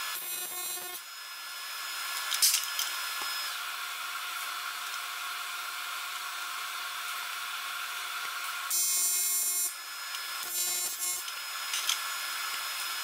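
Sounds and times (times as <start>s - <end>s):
welding arc buzzing: 0.0s - 13.0s.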